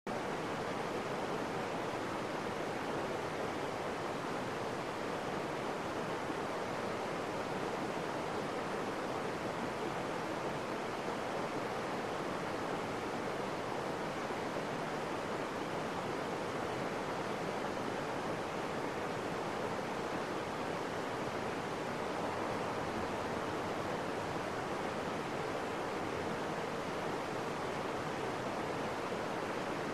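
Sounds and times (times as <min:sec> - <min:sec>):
stream water rushing over rocks: 0:00.1 - 0:29.9.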